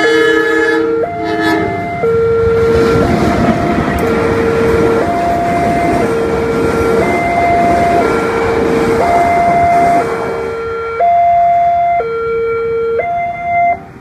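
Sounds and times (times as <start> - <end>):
train coaches rushing past: 0.0 - 12.0
two-tone level-crossing alarm: 0.0 - 14.0.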